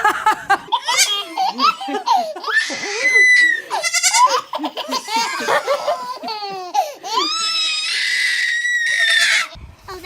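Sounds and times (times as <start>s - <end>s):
baby laughing and squealing: 0.7s - 9.6s.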